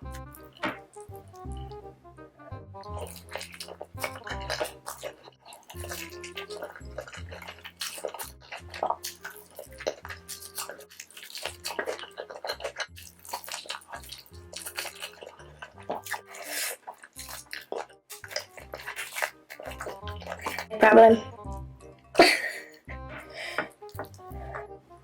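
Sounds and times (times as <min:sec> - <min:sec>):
wet chewing and slurping: 0:00.0 - 0:01.8, 0:02.8 - 0:21.6, 0:23.2 - 0:24.8
soft background music: 0:00.0 - 0:25.0.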